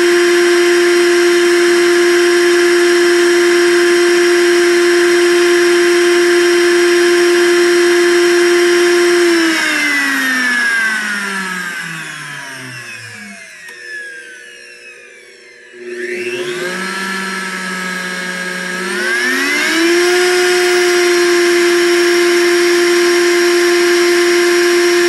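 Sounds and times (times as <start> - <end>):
blender motor whining: 0.0 - 25.0.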